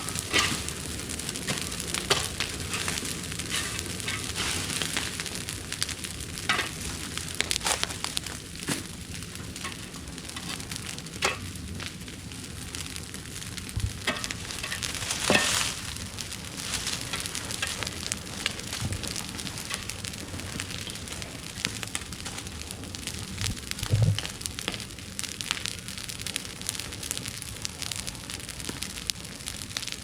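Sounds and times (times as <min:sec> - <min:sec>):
burning vegetation crackling: 0:00.0 - 0:30.0
steady hiss of fire: 0:00.0 - 0:30.0.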